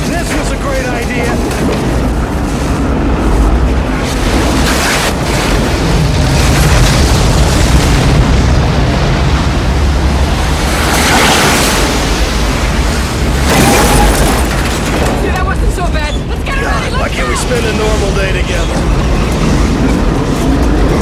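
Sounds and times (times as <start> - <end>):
churning debris: 0.0 - 21.0
tornado wind roar: 0.0 - 21.0.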